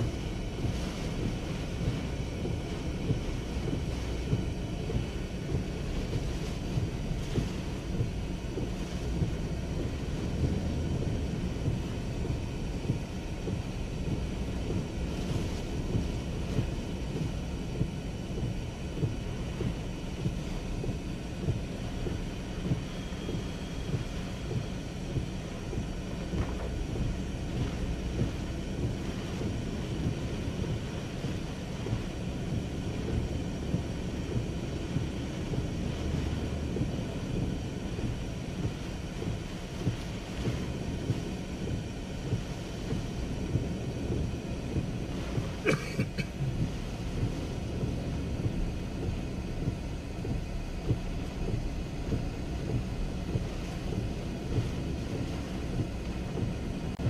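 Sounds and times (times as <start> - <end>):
rain: 0.0 - 57.0.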